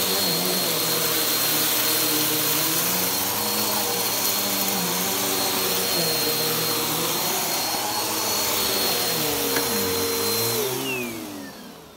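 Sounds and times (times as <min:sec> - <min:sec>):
vacuum cleaner motor whine: 0:00.0 - 0:11.9.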